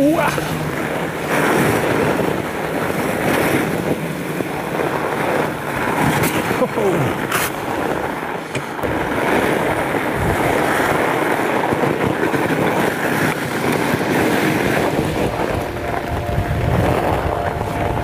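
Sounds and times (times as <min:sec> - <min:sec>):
bike tyres rolling on trail: 0:00.0 - 0:18.0
wind buffeting microphone: 0:00.0 - 0:18.0.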